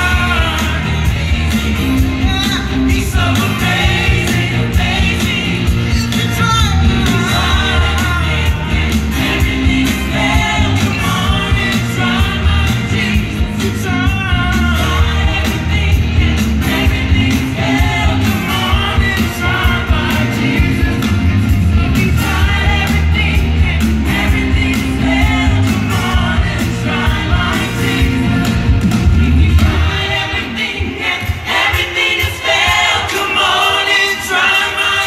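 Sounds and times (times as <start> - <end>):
gospel choir singing with band: 0.0 - 35.0.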